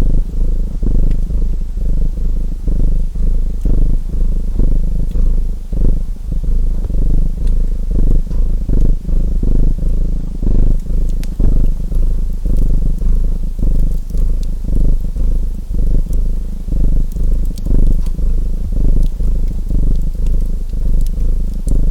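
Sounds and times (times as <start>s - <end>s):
cat purring: 0.0s - 21.9s.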